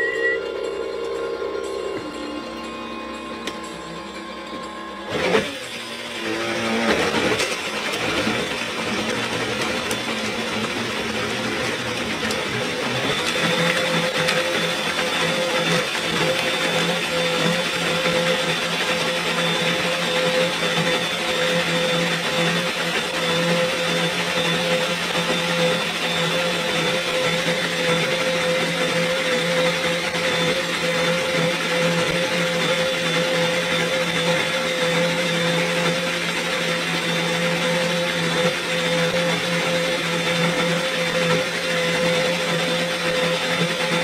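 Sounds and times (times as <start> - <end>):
blender whining: 0.0 - 44.0.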